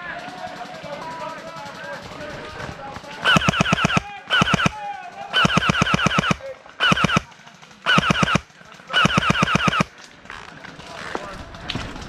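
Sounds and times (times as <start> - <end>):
airsoft gun firing bursts: 0.0 - 9.9.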